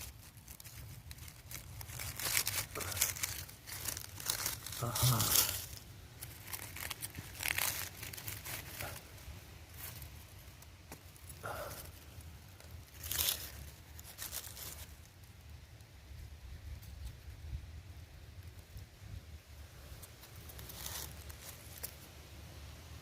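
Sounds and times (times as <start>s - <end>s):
rustling and crackling: 0.0s - 23.0s.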